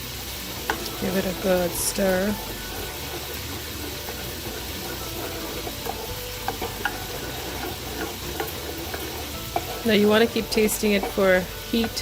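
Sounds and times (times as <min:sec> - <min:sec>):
sauce sizzling: 0:00.0 - 0:12.0.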